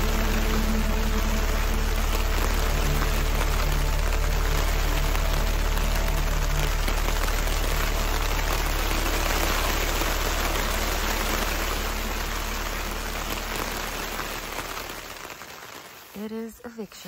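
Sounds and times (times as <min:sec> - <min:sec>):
low rumble: 0:00.0 - 0:15.2
steady rain falling: 0:00.0 - 0:17.0.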